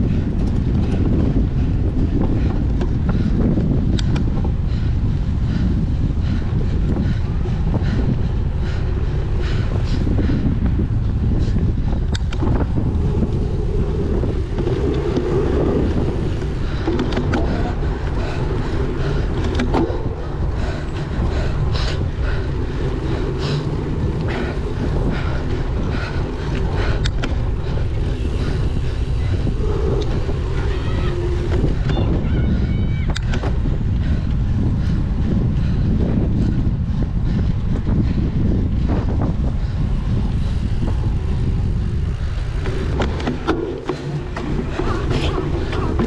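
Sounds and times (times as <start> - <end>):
bike clicks and rattles: 0.0 - 46.0
wind rumbling on microphone: 0.0 - 46.0.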